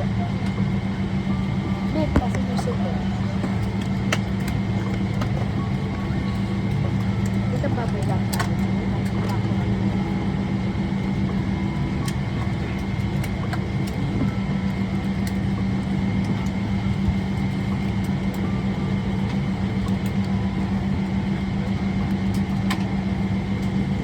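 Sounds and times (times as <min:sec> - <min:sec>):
aircraft ventilation drone: 0:00.0 - 0:24.0.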